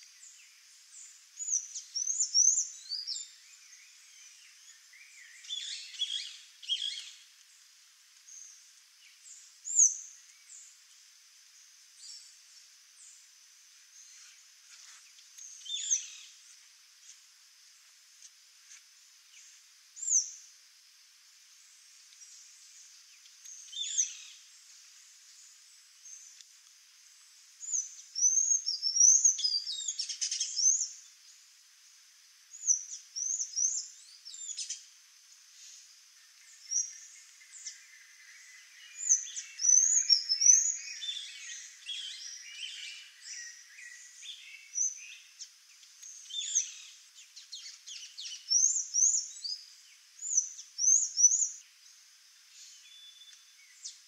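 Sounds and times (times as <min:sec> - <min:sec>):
songbirds chirping: 0:00.0 - 0:54.0
steady high hiss: 0:00.0 - 0:54.0.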